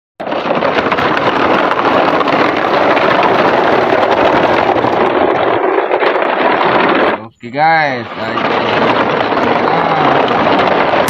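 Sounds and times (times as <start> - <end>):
toy trucks rolling over gravel: 0.2 - 11.0.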